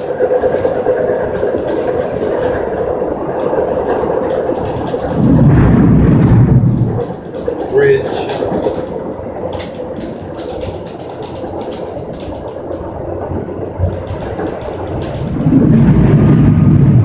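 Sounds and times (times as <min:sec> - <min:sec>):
rail clicks: 0:00.0 - 0:17.0
train rumbling on rails: 0:00.0 - 0:17.0.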